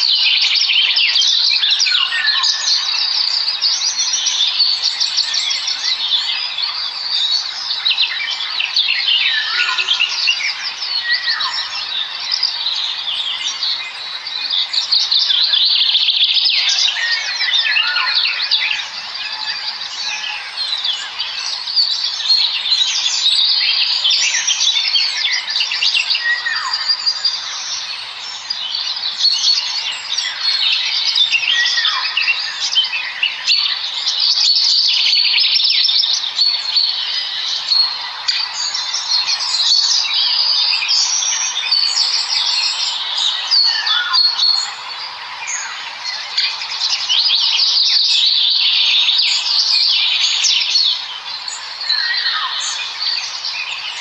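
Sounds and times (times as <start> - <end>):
small birds chirping chorus: 0.0 - 54.0.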